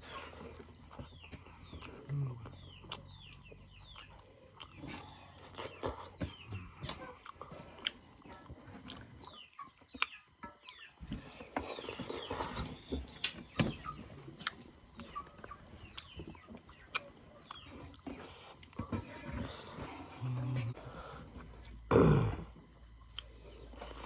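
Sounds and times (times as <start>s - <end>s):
chewing and mouth smacks: 0.0s - 20.1s.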